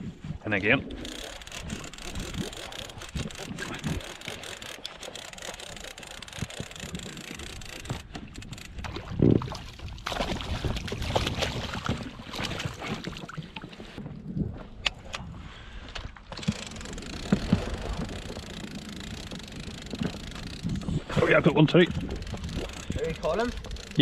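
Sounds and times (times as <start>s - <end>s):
wind buffeting microphone: 0.0s - 4.7s, 6.0s - 15.8s, 16.7s - 24.0s.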